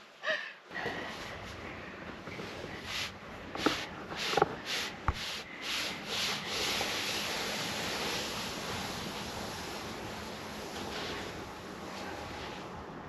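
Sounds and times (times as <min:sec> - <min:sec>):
sled sliding hiss on sand: 0:00.7 - 0:13.0
sled scraping sand: 0:00.8 - 0:12.8.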